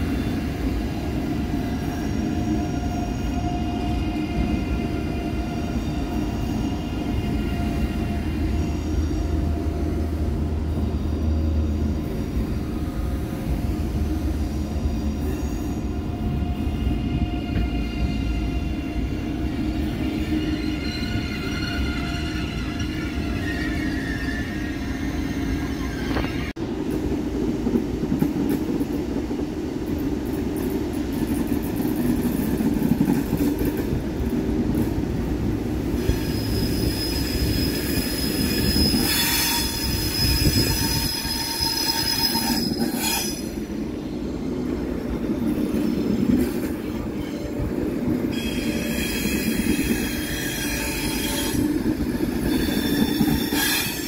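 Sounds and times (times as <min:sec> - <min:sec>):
train wheels squealing: 0:00.0 - 0:26.5, 0:35.9 - 0:54.0
train rolling past rumbling: 0:00.0 - 0:54.0.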